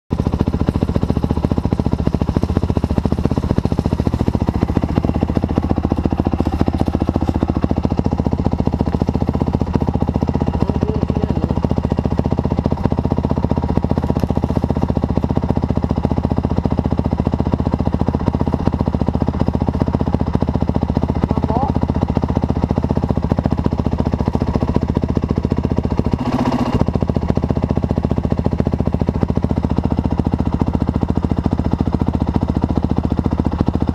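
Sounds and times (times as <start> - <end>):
dirt bike engine running: 0.1 - 33.9.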